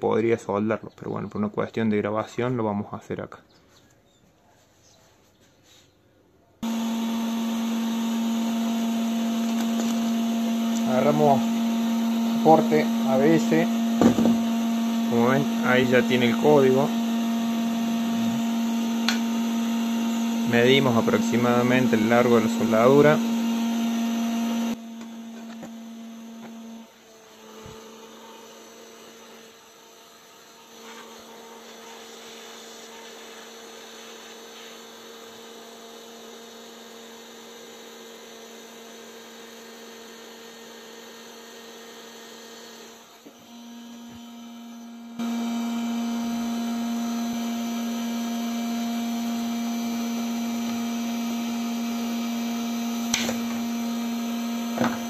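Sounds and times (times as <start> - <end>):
hot-air welding gun humming: 6.6 - 55.0.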